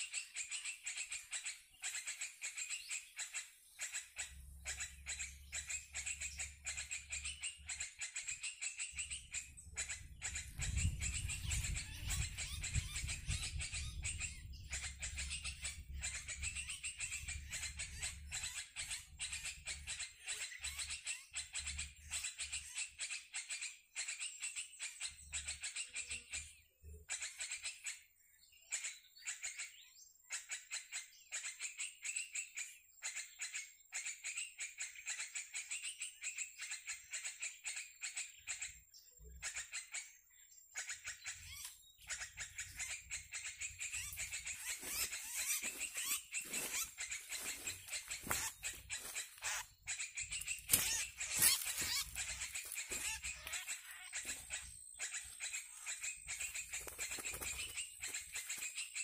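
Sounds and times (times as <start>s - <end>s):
rapid high-pitched bird calls: 0.0s - 59.0s.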